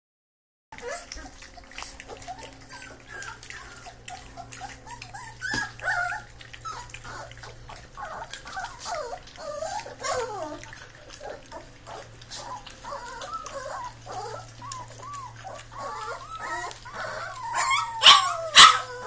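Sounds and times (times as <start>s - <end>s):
clicks of eating: 0.8s - 19.0s
puppies whimpering and squeaking: 0.8s - 19.0s.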